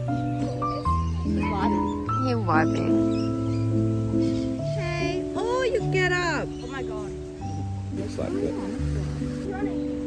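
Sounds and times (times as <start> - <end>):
music of held chords: 0.0 - 10.0.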